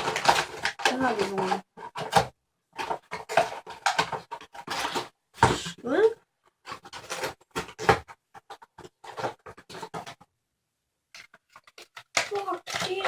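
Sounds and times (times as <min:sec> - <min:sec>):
packaging crinkling and clicking: 0:00.0 - 0:05.1, 0:06.6 - 0:10.3, 0:11.1 - 0:13.0.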